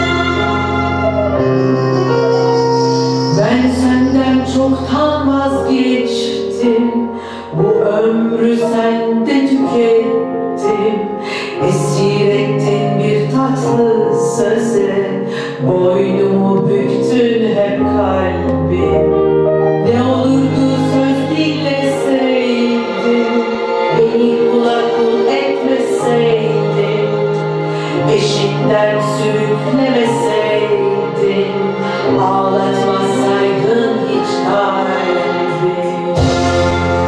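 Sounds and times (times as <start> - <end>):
woman singing: 0.0 - 1.4, 3.3 - 37.0
instrumental accompaniment with bass: 0.0 - 37.0.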